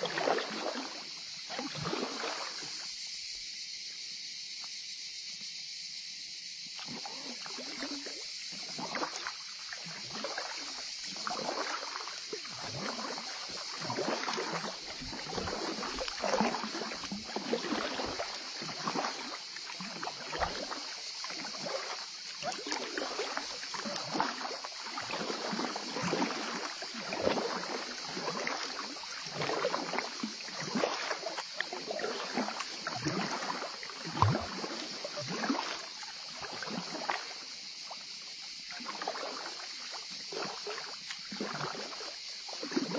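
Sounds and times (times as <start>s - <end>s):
paddle strokes splashing water: 0.0s - 42.9s.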